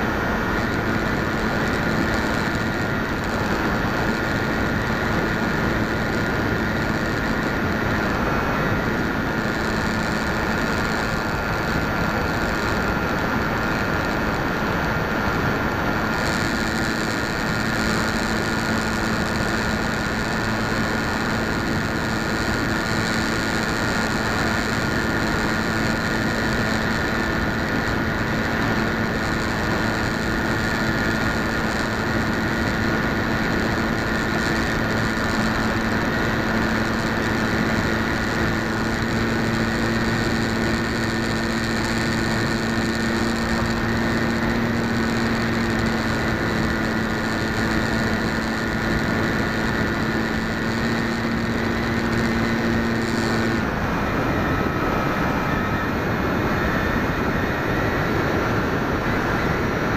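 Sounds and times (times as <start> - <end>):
low hum: 0.0 - 59.9
model aircraft motor whine: 0.0 - 59.9.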